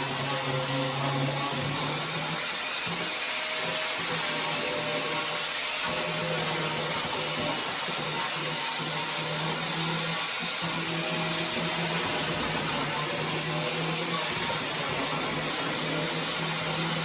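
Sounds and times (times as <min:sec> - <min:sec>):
electric grinder grinding metal: 0:00.0 - 0:17.0.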